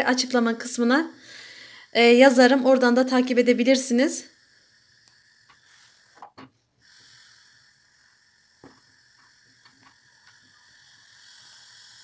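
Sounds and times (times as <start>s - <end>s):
faint simmering hiss: 0.0s - 12.0s.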